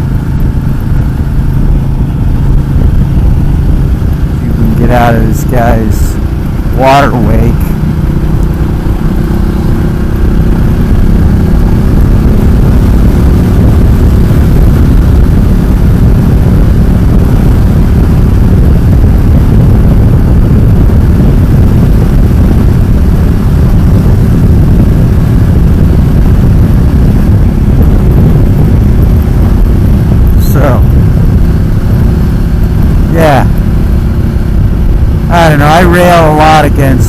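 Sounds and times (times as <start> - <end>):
motorcycle engine: 0.0 - 37.0
wind rush over microphone: 0.0 - 37.0.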